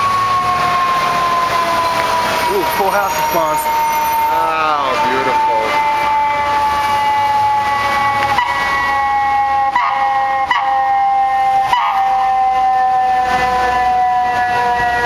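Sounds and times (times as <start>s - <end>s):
fire siren winding down: 0.0s - 15.0s.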